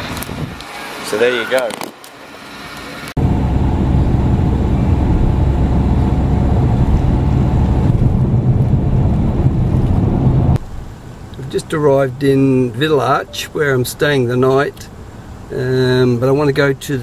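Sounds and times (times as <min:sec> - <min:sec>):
car cabin road and engine rumble: 0:03.1 - 0:17.0.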